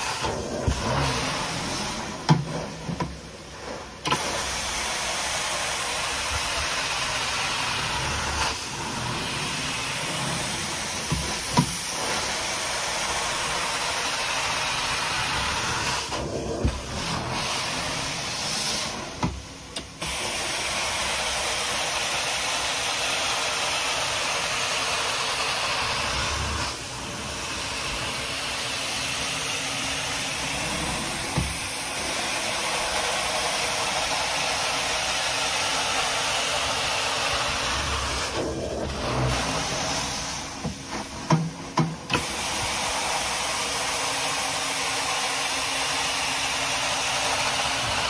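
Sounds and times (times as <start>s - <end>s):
carpet extractor suction hiss: 0.0s - 48.0s.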